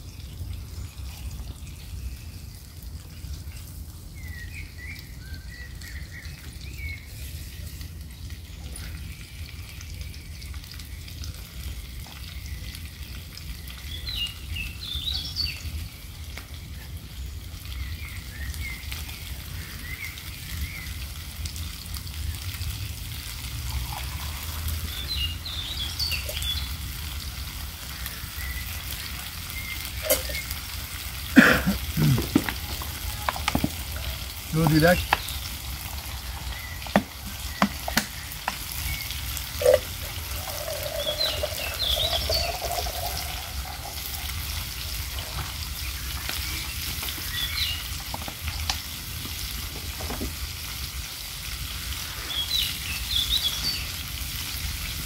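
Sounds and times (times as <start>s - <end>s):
songbirds chirping: 0.0s - 48.9s, 52.0s - 54.2s
crackling hiss: 0.0s - 55.0s.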